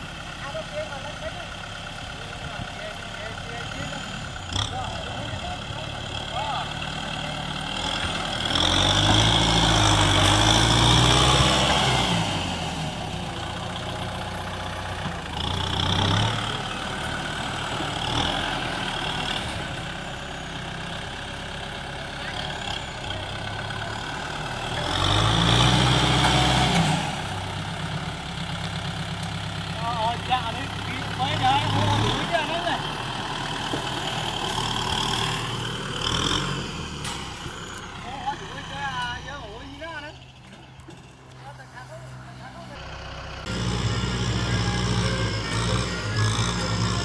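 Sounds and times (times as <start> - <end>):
tractor diesel engine revving: 0.0 - 47.0.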